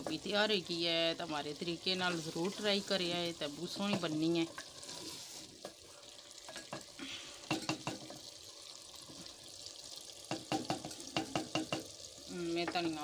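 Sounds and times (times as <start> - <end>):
light frying sizzle: 0.0 - 13.0.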